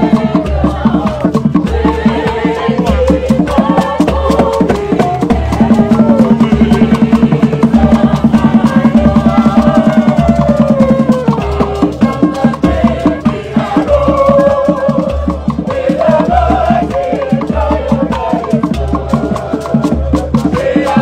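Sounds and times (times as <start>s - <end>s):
fast percussion pattern: 0.0s - 21.0s.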